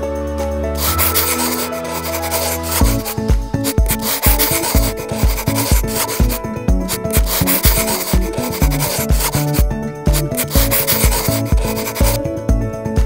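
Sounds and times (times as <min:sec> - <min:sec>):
background music with beat: 0:00.0 - 0:13.0
marker scratching on paper: 0:00.8 - 0:12.2.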